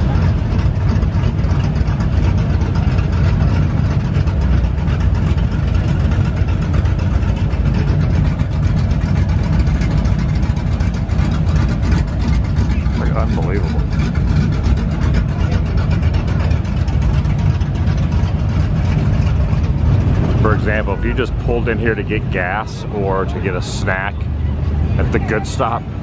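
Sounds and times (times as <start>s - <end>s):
car engines idling: 0.0s - 26.0s.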